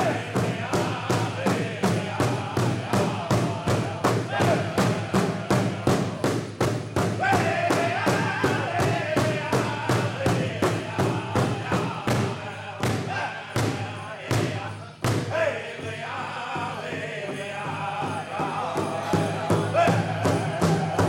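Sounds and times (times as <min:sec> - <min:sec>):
big drum steady beat: 0:00.0 - 0:21.0
men singing: 0:00.0 - 0:21.0.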